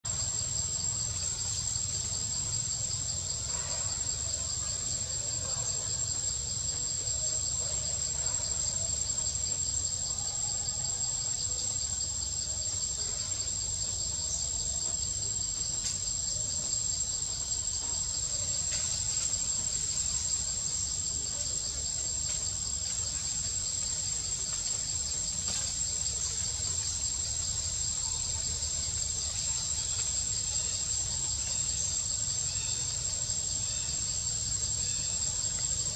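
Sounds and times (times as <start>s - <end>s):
pulsing insect trill: 0.1s - 35.9s
insects whining: 6.0s - 35.9s.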